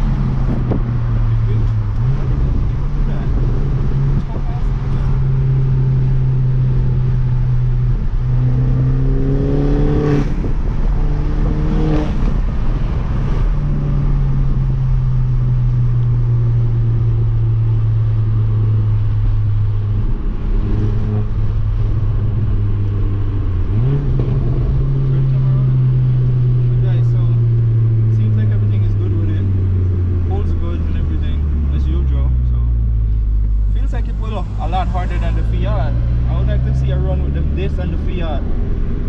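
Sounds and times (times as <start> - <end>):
car engine and road drone: 0.0 - 39.0.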